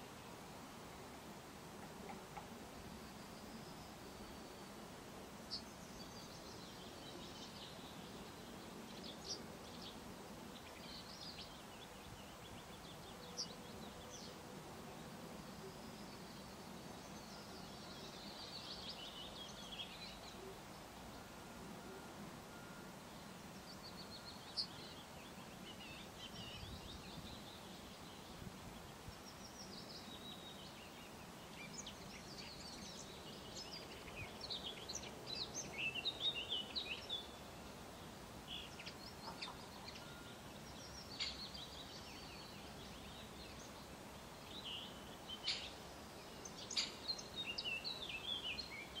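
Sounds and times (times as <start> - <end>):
small songbirds chirping: 0.0 - 49.0
steady outdoor hiss: 0.0 - 49.0.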